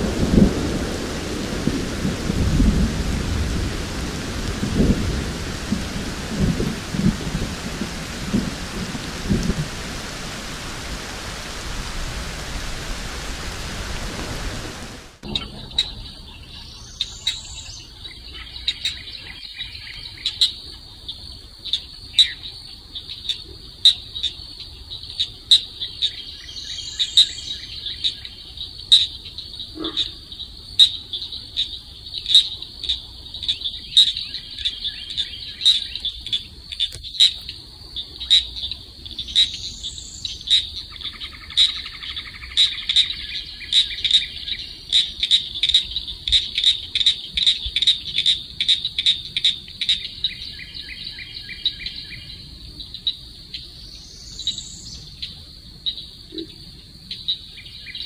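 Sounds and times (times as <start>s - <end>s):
bird calling: 0.0s - 20.7s, 25.1s - 58.0s
frogs clicking calls: 0.0s - 58.0s
insects trilling: 0.0s - 58.0s.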